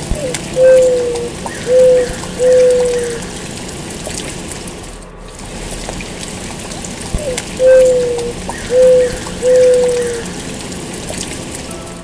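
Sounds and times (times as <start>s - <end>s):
mourning dove cooing: 0.0s - 4.7s, 5.8s - 11.6s
steady background hiss: 0.0s - 12.0s.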